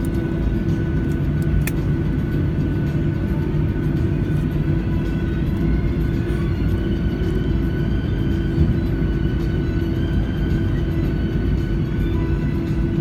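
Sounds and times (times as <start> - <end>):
jet engine and airflow rumble: 0.0 - 13.0
jet engine whine: 0.0 - 13.0.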